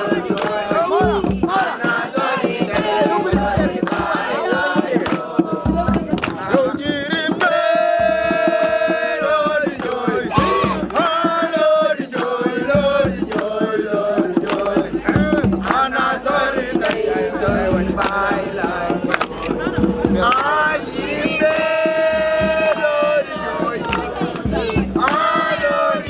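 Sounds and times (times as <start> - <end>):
group of young voices chanting: 0.0 - 26.0
steady percussive beat: 0.0 - 26.0.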